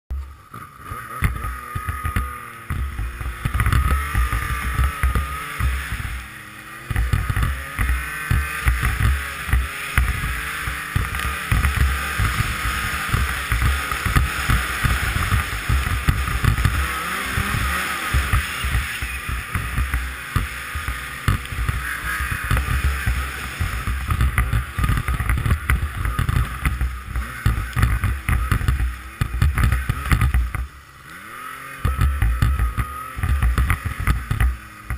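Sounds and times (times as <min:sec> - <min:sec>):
snowmobile engine revving: 0:00.2 - 0:34.9.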